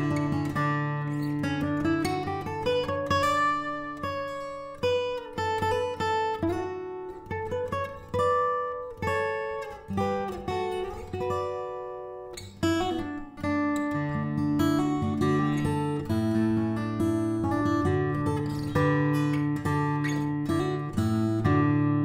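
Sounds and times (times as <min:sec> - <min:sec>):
acoustic guitar plucking: 0:00.0 - 0:22.0.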